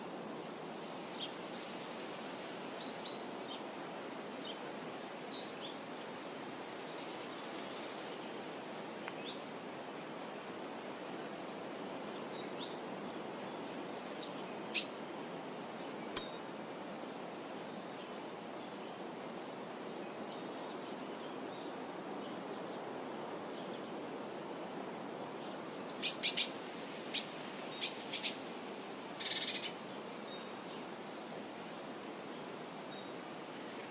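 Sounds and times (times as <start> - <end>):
steady outdoor hiss: 0.0 - 33.9.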